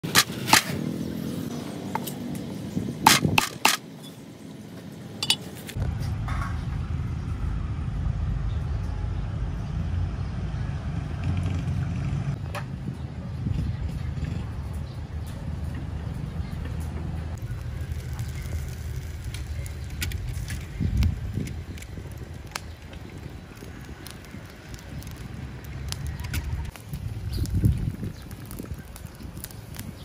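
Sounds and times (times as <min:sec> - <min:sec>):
low roadside rumble: 0:00.0 - 0:30.0.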